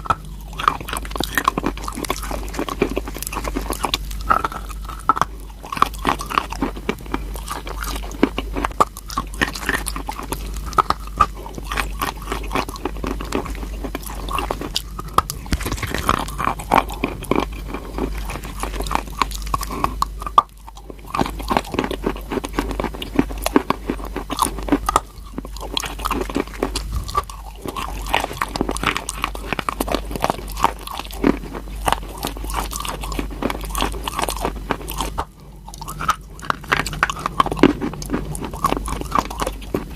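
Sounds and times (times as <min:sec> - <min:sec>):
person chewing crunchy chalk: 0:00.0 - 0:39.9.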